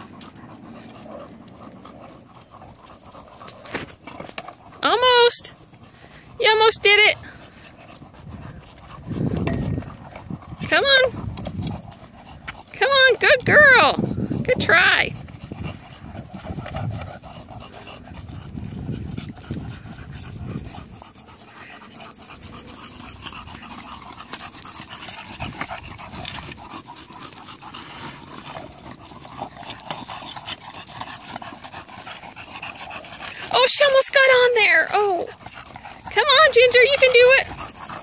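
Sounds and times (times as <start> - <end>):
dog panting: 0.0 - 38.0.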